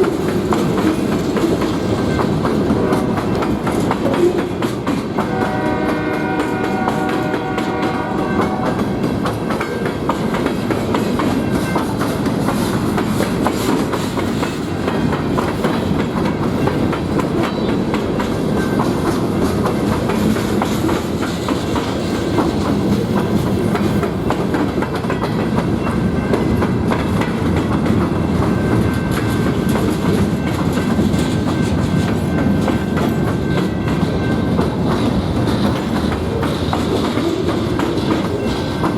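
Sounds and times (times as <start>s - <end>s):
freight train rolling past: 0.0s - 38.9s
wheels clacking over rail joints: 0.0s - 38.9s.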